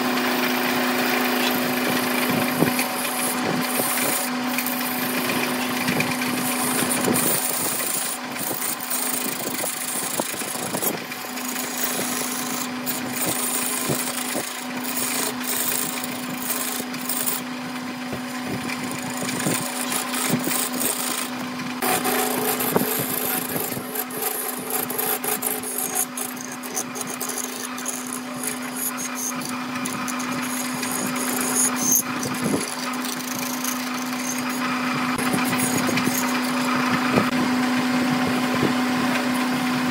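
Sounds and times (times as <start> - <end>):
wood lathe humming: 0.0 - 39.9
turning tool scraping hiss: 1.3 - 17.5, 18.6 - 37.3.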